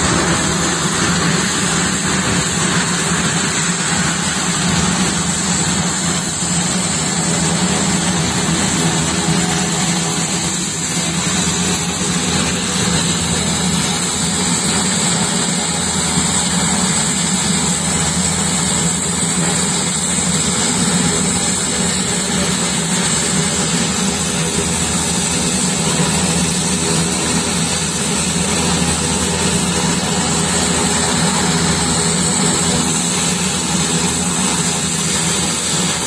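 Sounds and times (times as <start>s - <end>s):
propeller aircraft engine drone: 0.0s - 36.0s.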